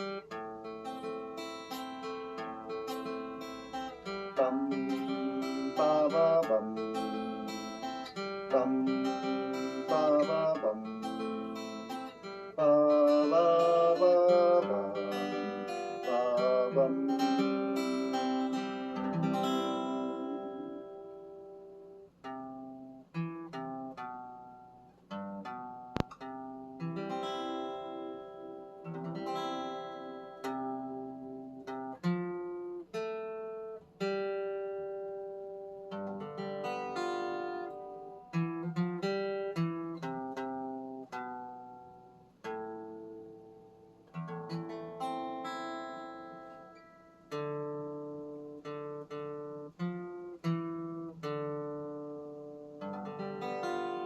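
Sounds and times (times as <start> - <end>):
acoustic guitar chords: 0.0 - 54.0.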